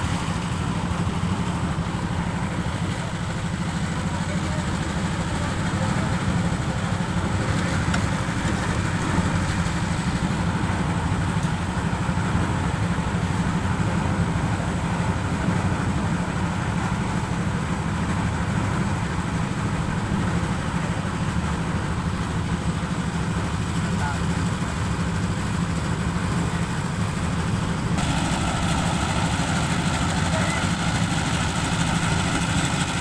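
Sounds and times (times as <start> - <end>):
engine droning steadily: 0.0 - 33.0.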